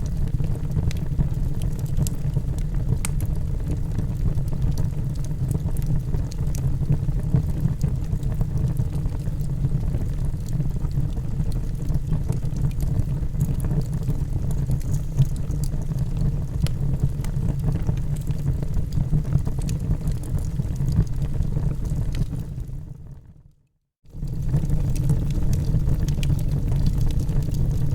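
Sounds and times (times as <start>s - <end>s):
low roar of flames: 0.0s - 23.2s, 24.1s - 27.9s
faint fire crackles and pops: 0.0s - 27.9s.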